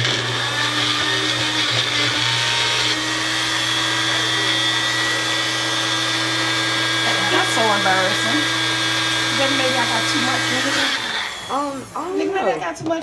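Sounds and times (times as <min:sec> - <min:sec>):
blender motor chopping vegetables: 0:00.0 - 0:13.0.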